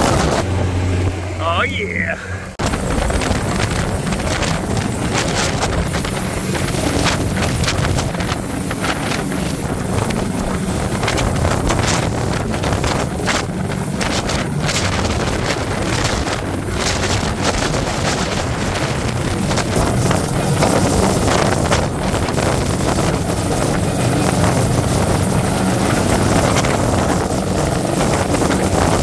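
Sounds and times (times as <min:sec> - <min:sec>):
downwash buffeting microphone: 0:00.0 - 0:29.0
helicopter rotor and engine: 0:00.0 - 0:29.0.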